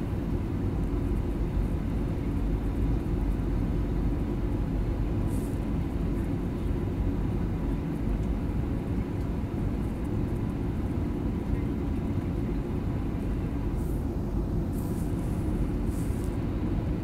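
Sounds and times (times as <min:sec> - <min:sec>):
jet engine cabin rumble: 0:00.0 - 0:17.0.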